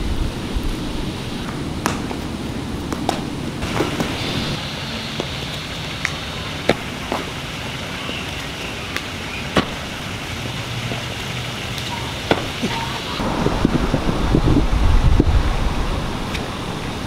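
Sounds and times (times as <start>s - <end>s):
distant road traffic: 0.8s - 17.0s.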